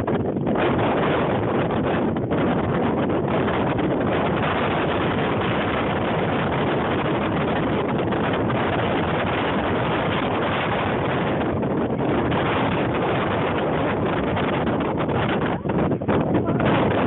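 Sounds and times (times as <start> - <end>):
loud rushing noise: 0.0 - 17.0.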